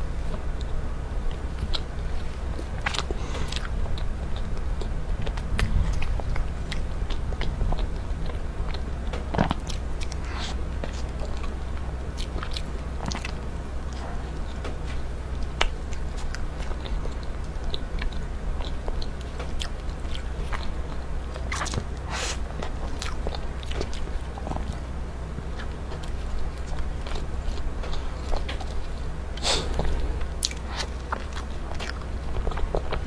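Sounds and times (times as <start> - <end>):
person chewing soft cake: 0.0 - 33.0
steady low hum: 0.0 - 33.0.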